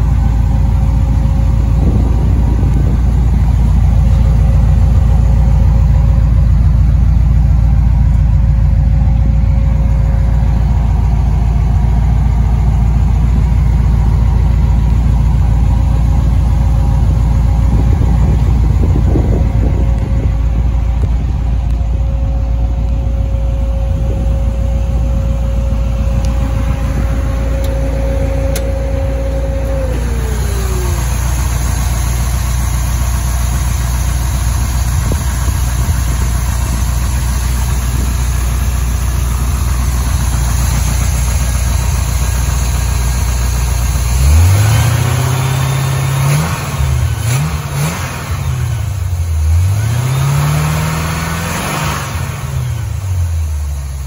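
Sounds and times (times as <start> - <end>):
steady whine: 0.0 - 49.8
car engine idling and revving: 0.0 - 54.0.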